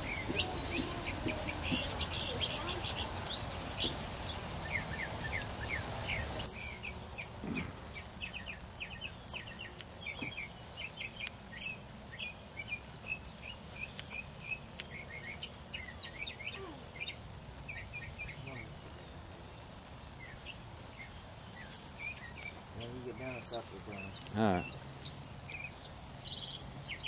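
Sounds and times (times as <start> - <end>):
flock of blackbirds chattering: 0.0 - 27.0.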